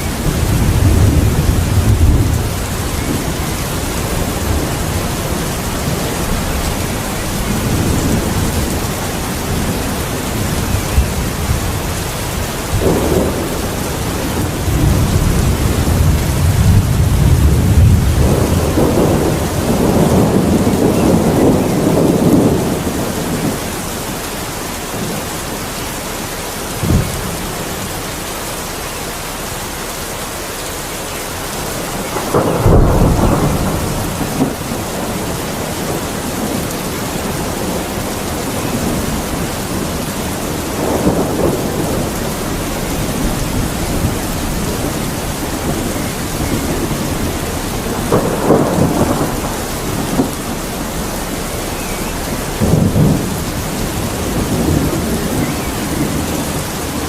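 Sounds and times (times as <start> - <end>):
rolling thunder: 0.0 - 25.8, 26.6 - 28.0, 31.6 - 57.0
steady rain falling: 0.0 - 57.0.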